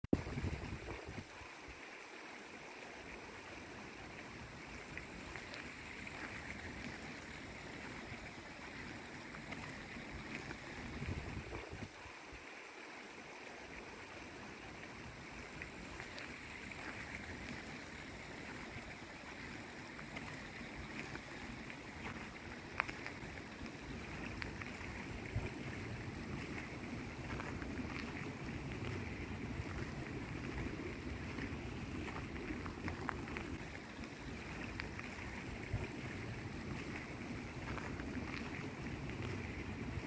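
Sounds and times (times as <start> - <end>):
stream running over rocks: 0.0 - 40.0.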